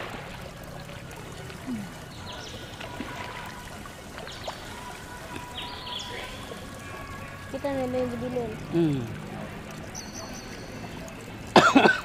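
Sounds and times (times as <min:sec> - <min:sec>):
seawater lapping and trickling: 0:00.0 - 0:12.0
small water splashes: 0:00.0 - 0:12.0.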